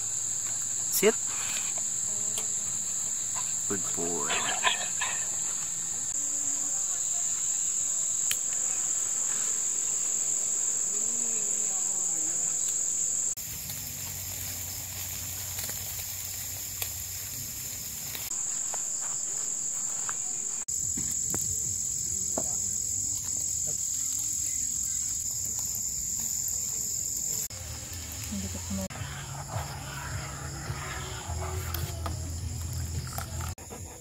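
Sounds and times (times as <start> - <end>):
insects chirring: 0.0 - 34.0.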